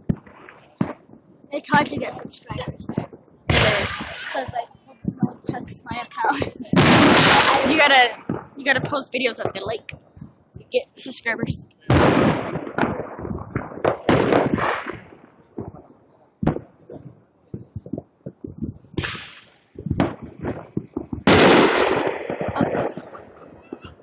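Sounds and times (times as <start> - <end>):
firecrackers cracking and popping: 0.0 - 24.0.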